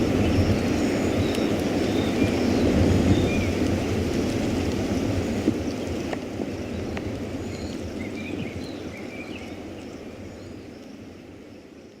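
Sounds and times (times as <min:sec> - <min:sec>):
rain: 0:00.0 - 0:12.0
wind: 0:00.0 - 0:12.0.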